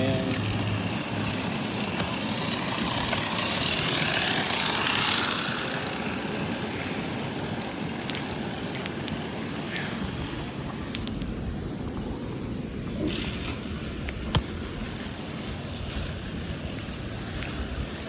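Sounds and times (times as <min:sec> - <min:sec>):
wind noise: 0:00.0 - 0:18.0.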